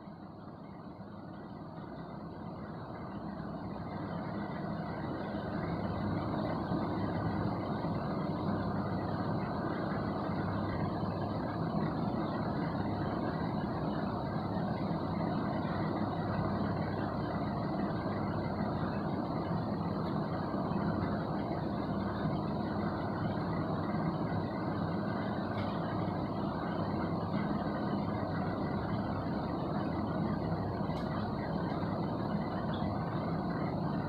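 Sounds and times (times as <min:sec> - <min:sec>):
low hum and rumble: 0:00.0 - 0:34.0.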